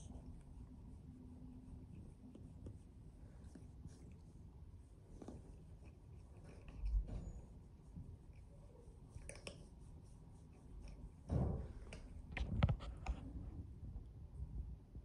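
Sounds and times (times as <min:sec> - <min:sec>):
rustling of cat fur: 0:00.0 - 0:13.8.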